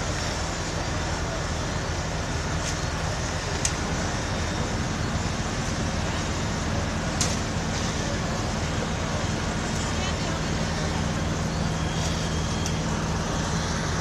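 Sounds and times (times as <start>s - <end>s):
diesel engines running: 0.0s - 14.0s.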